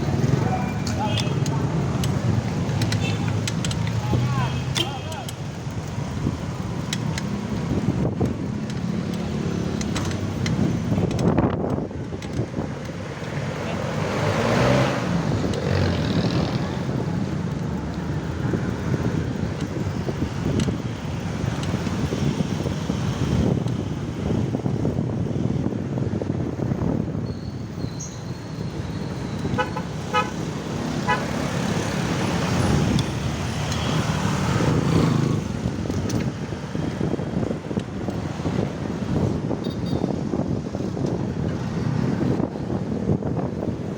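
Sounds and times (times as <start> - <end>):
road traffic noise: 0.0 - 43.9
wind on the microphone: 5.4 - 43.9.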